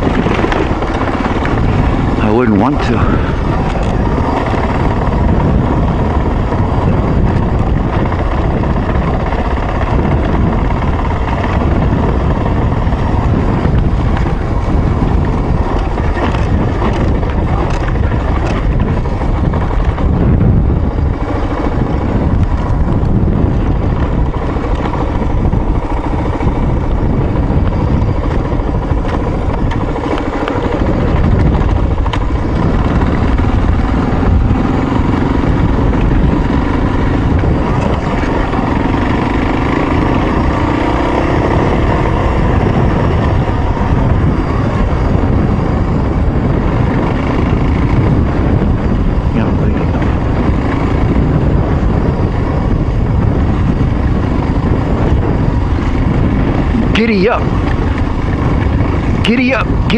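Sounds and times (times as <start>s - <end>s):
heavy wind noise: 0.0s - 59.9s
motorcycle engine running: 0.0s - 59.9s.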